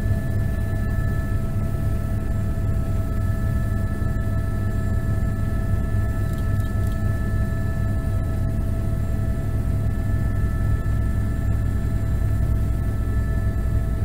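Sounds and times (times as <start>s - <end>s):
helicopter running: 0.0s - 14.0s.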